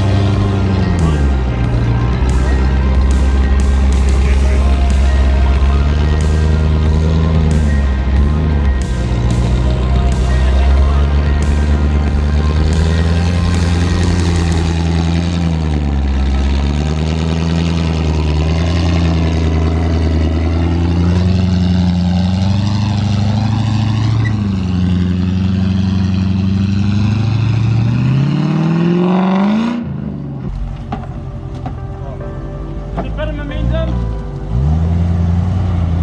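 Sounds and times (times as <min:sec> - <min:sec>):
engine revving under load: 0:00.0 - 0:31.7.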